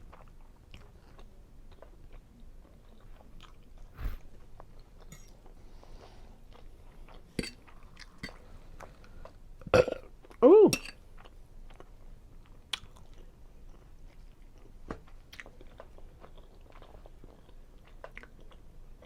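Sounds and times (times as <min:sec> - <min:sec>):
person chewing food: 0:00.0 - 0:10.4, 0:11.0 - 0:19.0.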